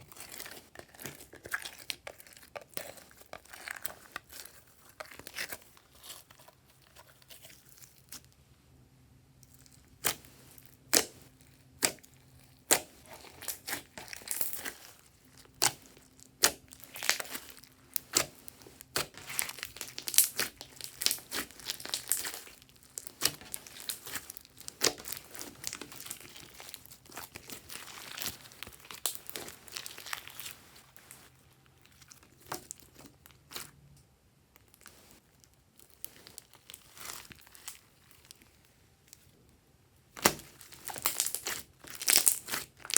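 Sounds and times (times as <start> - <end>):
slime sticky crackling: 0.0 - 8.3, 9.4 - 33.7, 40.2 - 42.9.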